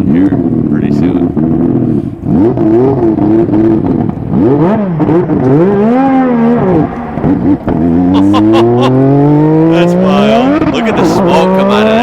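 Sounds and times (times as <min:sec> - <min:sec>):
racing car engine revving: 0:00.0 - 0:12.0.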